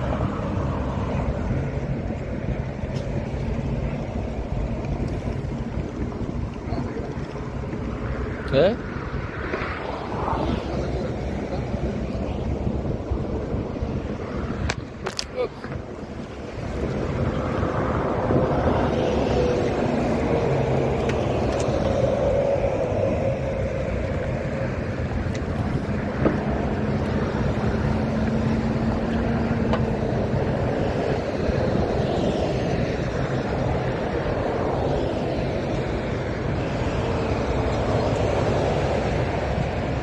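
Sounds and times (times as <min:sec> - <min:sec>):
pickup truck driving on dirt: 0:00.0 - 0:40.0
wind on microphone: 0:00.0 - 0:40.0.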